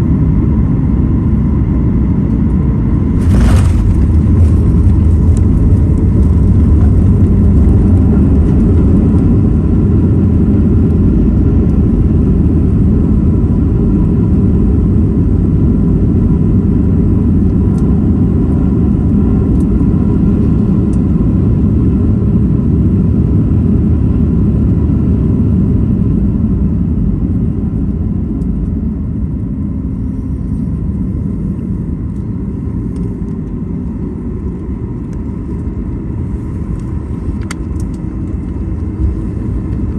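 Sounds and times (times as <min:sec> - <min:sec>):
aircraft engine and runway rumble: 0:00.0 - 0:39.9.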